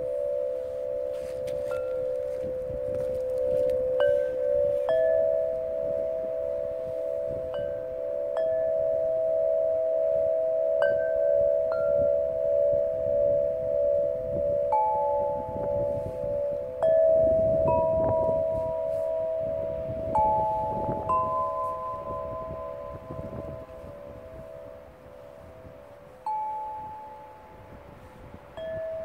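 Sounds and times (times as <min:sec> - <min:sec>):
glass tube chimes struck: 0:00.0 - 0:27.5, 0:28.6 - 0:29.0
pulsing hum of chime tubes: 0:00.0 - 0:29.0.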